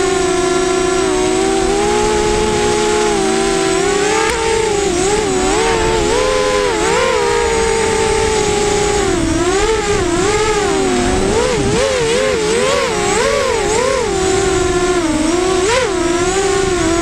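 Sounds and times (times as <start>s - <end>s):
drone motors and propellers whining: 0.0s - 17.0s.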